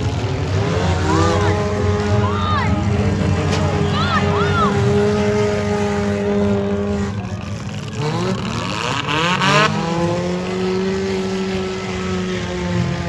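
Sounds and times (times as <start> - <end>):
car engines running: 0.0 - 13.0
engine revving hard: 0.0 - 13.0.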